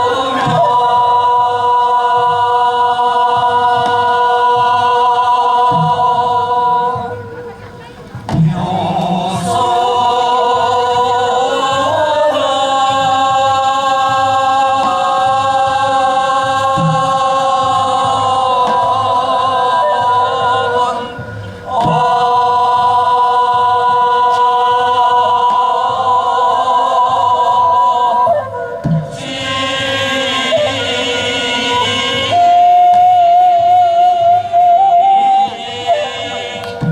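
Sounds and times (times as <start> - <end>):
person singing long held notes: 0.0 - 7.7, 8.4 - 36.9.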